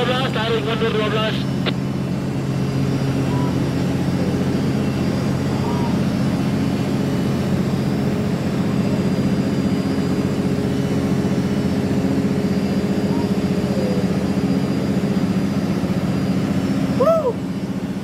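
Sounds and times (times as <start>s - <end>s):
boat diesel engine throbbing: 0.0s - 18.0s
faint steady whine: 0.0s - 18.0s.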